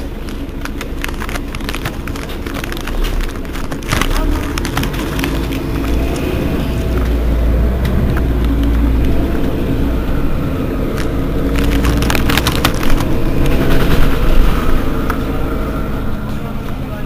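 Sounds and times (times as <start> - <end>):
sharp clicks and rattles: 0.0 - 10.2, 10.8 - 15.2
bus engine droning: 0.0 - 17.0.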